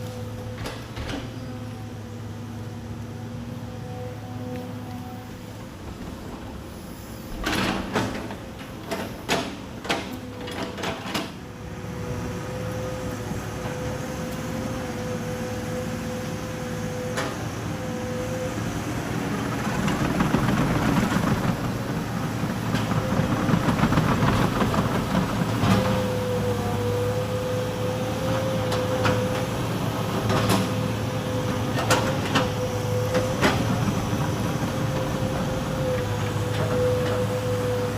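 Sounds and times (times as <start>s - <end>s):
excavator engine hydraulic whine: 0.0s - 37.9s.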